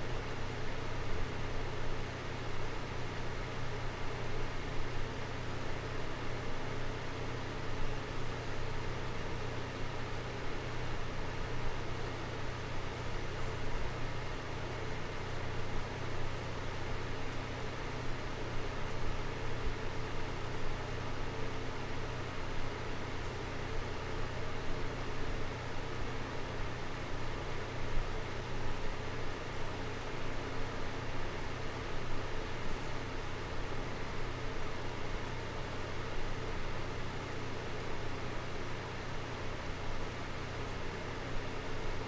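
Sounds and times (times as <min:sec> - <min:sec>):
desk fan running: 0:00.0 - 0:42.0.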